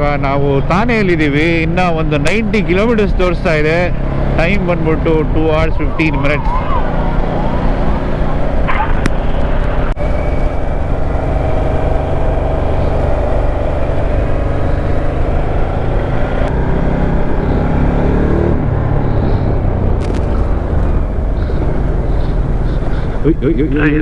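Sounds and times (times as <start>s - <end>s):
wind and road noise: 0.0s - 24.0s
motorcycle engine running: 0.7s - 16.5s, 18.5s - 24.0s.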